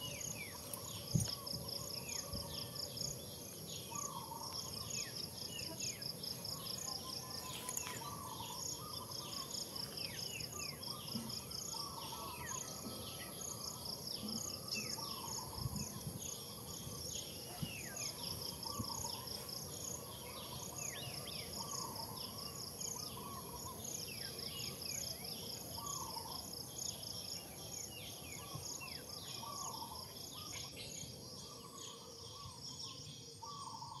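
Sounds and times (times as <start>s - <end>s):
high insect whine: 0.0s - 33.9s.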